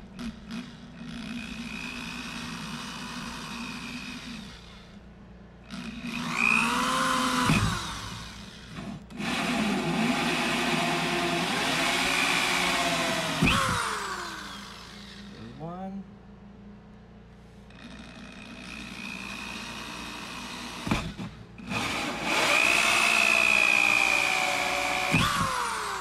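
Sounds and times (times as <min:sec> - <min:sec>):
drill with hole saw cutting wood: 0:00.0 - 0:05.0, 0:05.7 - 0:15.4, 0:17.7 - 0:26.0.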